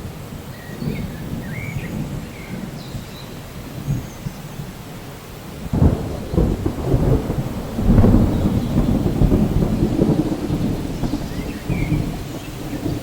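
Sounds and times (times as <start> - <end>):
rolling thunder: 0.0 - 4.8, 5.6 - 13.0
steady rain: 0.0 - 13.0.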